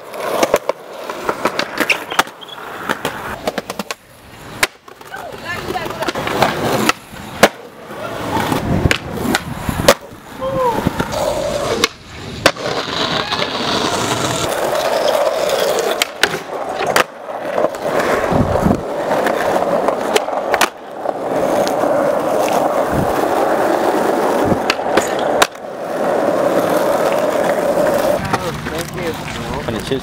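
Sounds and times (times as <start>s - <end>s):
skateboard clacks popping and landing: 0.0s - 10.2s, 10.9s - 23.2s, 23.9s - 29.8s
skateboard sliding along bench: 0.0s - 30.0s
skateboard wheels rolling on concrete: 0.0s - 30.0s.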